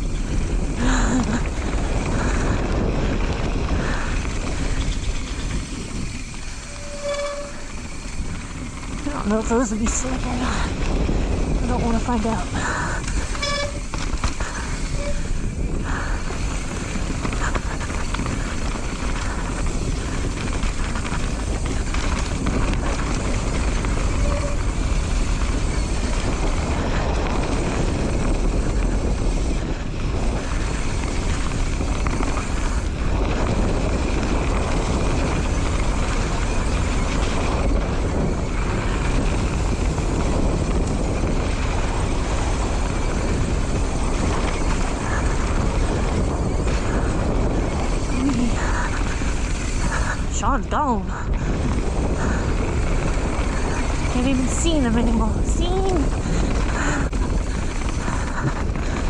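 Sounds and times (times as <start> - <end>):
tyres rolling on dirt: 0.0 - 59.0
wind on microphone: 0.0 - 59.0.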